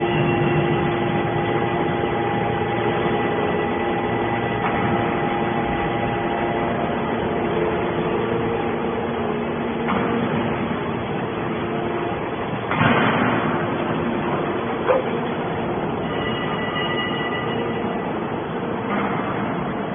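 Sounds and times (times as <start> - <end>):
baler machine hum: 0.0 - 19.9.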